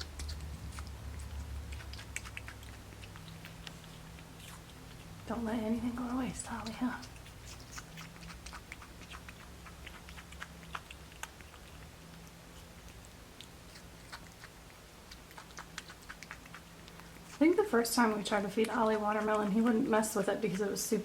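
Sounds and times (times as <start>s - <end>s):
monkey chewing wet clicks: 0.0s - 20.0s
faint low hum: 0.0s - 21.0s.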